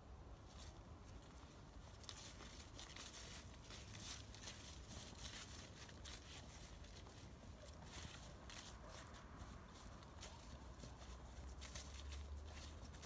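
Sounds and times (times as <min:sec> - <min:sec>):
dry leaves crackling underfoot: 0:00.3 - 0:13.0.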